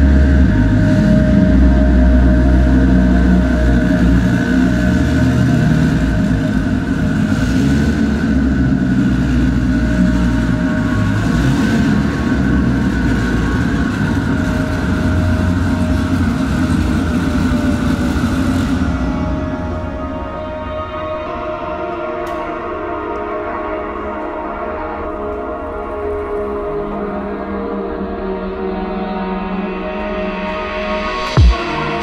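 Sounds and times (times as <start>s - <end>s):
engine low rumble: 0.0s - 32.0s.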